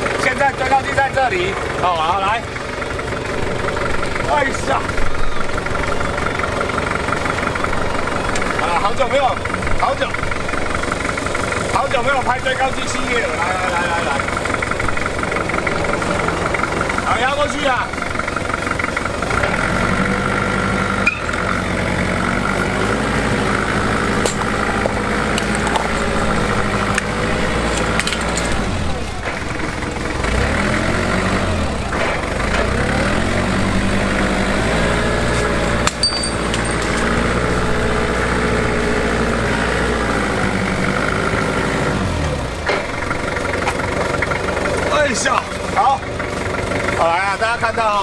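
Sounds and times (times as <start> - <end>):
forklift engine running: 0.0 - 48.0.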